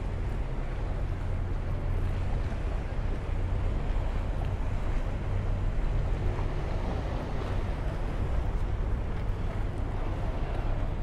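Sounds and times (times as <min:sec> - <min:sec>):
water rushing past boat bow: 0:00.0 - 0:11.0.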